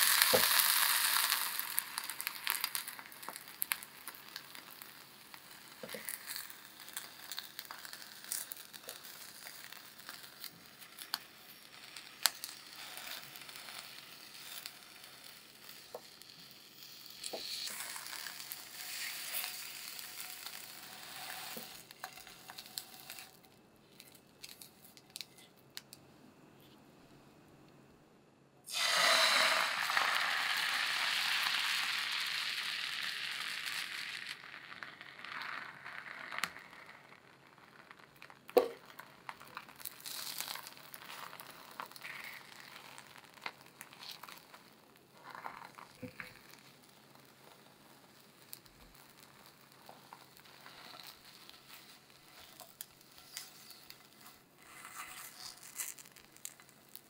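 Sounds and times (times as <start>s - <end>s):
food sizzling in a frying pan: 0.0s - 23.4s, 28.7s - 57.0s
loud sizzle of egg poured in pan: 0.0s - 23.4s, 28.7s - 57.0s.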